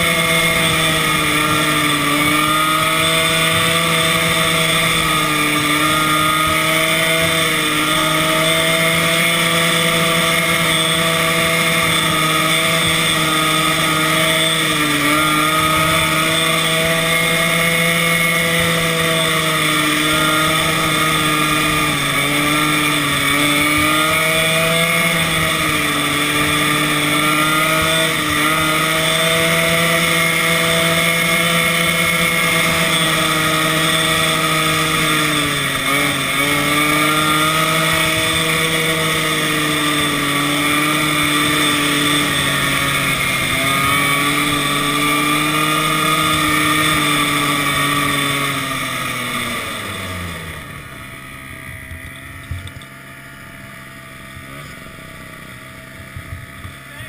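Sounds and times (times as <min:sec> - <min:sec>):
snowmobile engine: 0:00.0 - 0:57.0.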